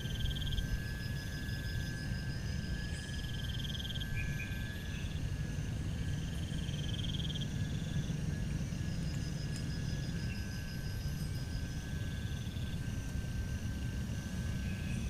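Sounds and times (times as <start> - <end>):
steady high whine: 0.0 - 15.0.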